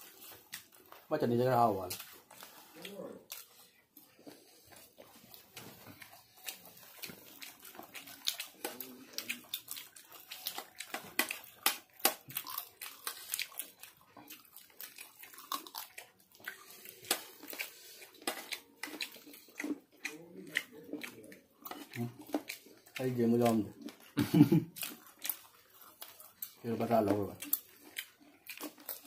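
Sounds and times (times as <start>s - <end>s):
people chewing: 0.0s - 29.0s.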